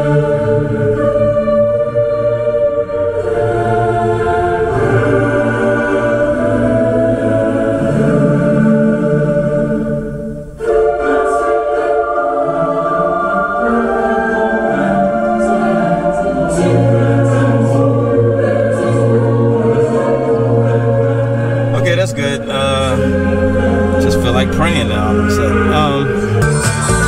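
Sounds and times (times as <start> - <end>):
long held bass notes: 0.0 - 27.0
music with singing over car stereo: 0.0 - 27.0.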